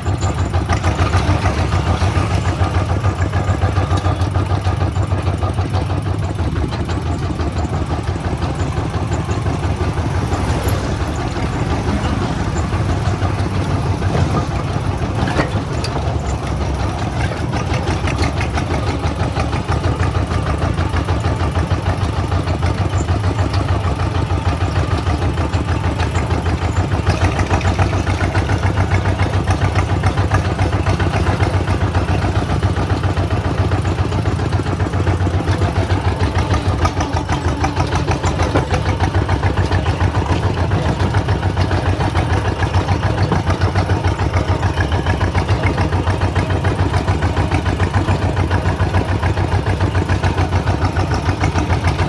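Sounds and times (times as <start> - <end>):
diesel engine chugging: 0.0 - 52.0.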